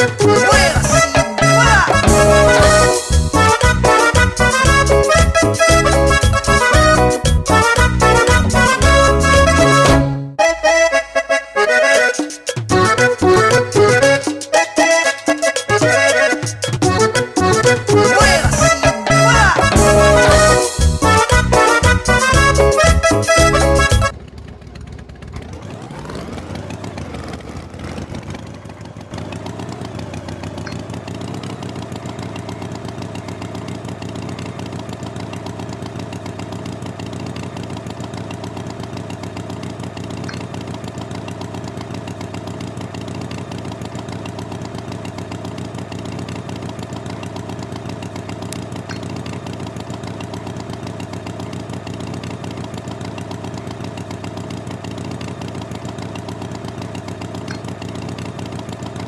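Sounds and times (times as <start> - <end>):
engine idling: 0.0 - 10.1, 11.2 - 59.0.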